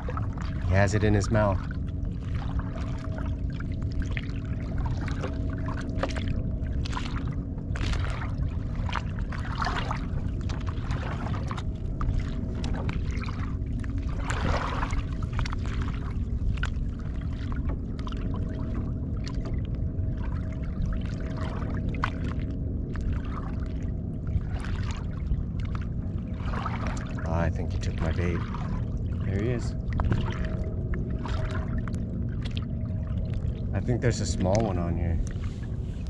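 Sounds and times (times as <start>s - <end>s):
faint steady hum: 0.0s - 36.0s
steady low rumble: 0.0s - 36.0s
water splashing against kayak hull: 0.0s - 36.0s.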